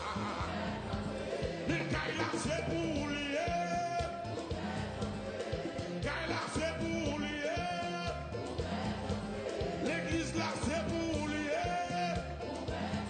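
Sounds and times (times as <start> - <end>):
live band playing: 0.0 - 13.0
man singing gospel: 0.0 - 13.0.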